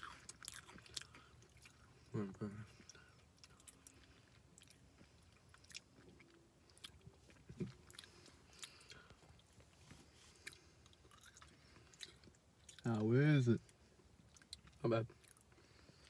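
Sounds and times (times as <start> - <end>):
chewing cookie crunches: 0.0 - 16.0.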